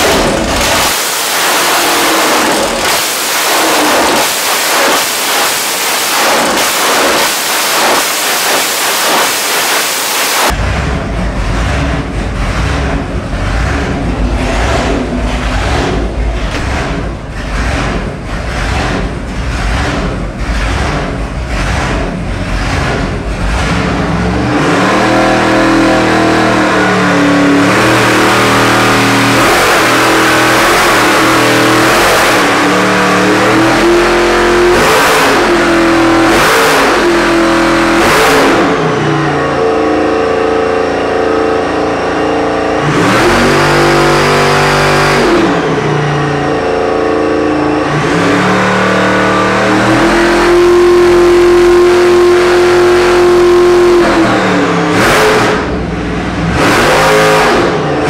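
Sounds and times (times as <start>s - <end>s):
vent engine revving: 0.0s - 58.0s.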